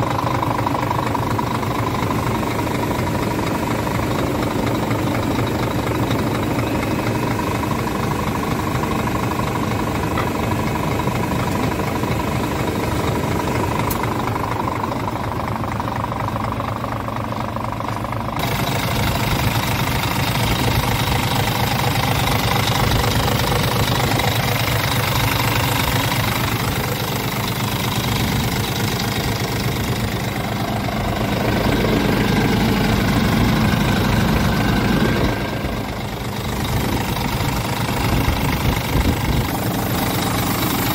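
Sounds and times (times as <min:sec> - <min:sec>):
truck diesel engine idling: 0:00.0 - 0:40.9.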